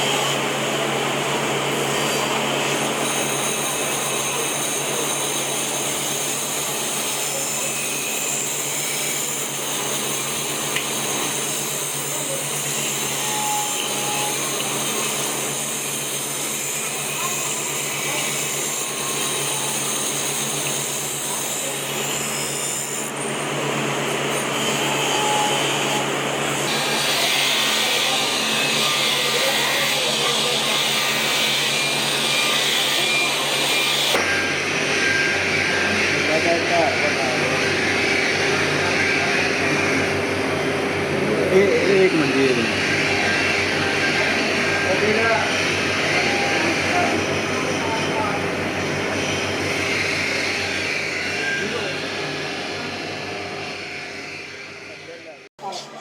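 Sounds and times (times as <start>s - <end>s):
power tool motor running: 0.0s - 55.3s.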